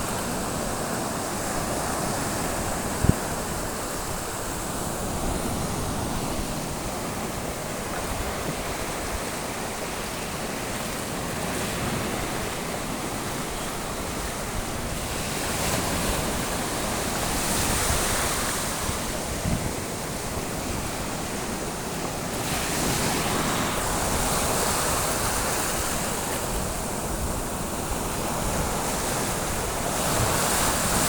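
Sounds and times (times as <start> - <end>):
sea waves washing on shore: 0.0 - 31.0.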